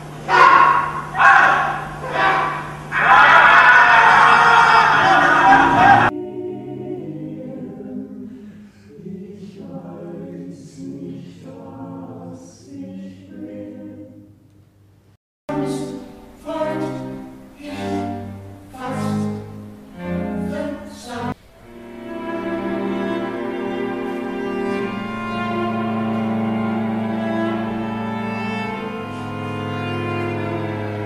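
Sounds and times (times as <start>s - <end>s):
group of voices singing in harmony: 0.3s - 14.4s, 15.5s - 31.0s.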